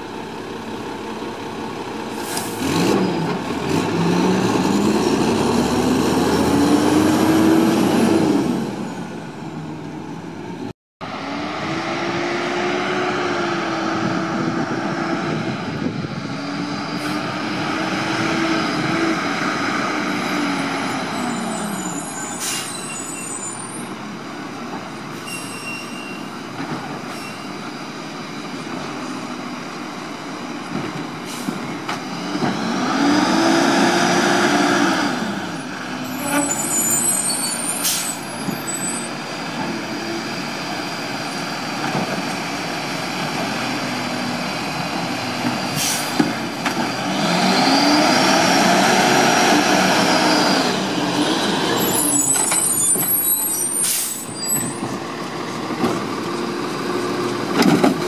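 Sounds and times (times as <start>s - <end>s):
diesel engine revving: 0.2s - 25.1s, 26.5s - 58.0s.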